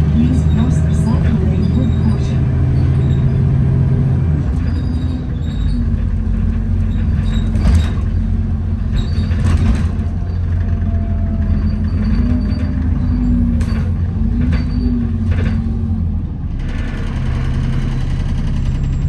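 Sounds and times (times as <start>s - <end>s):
bus engine drone: 0.0s - 19.0s
drivetrain whine: 0.0s - 19.0s.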